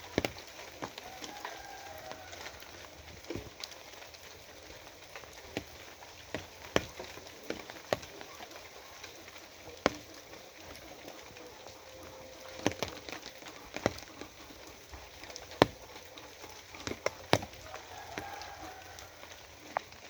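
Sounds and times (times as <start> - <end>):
drops tapping a hard surface: 0.0 - 20.0
rain falling: 0.0 - 20.0.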